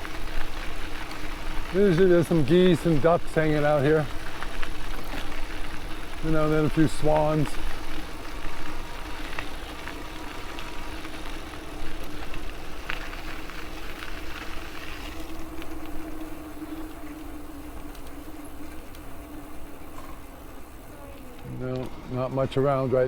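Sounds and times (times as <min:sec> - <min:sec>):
electric motor hum: 0:00.0 - 0:23.0.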